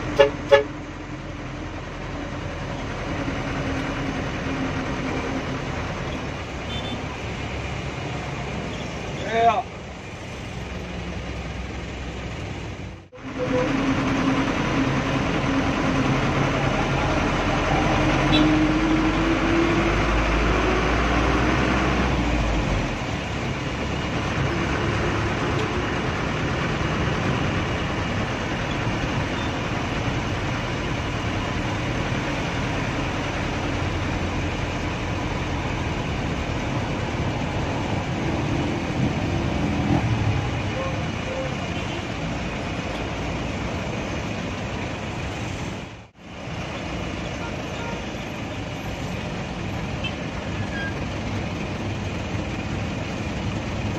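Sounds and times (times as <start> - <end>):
bus engine running: 0.0 - 53.9
road noise: 0.0 - 53.9.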